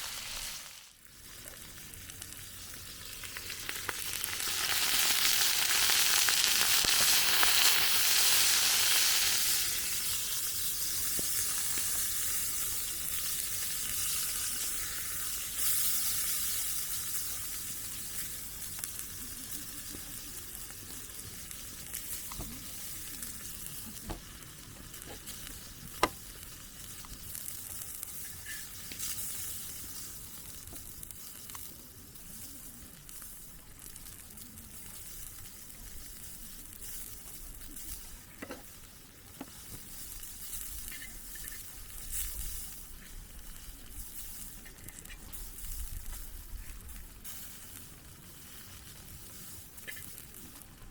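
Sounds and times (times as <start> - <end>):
chicken sizzling in a pan: 0.0 - 50.9.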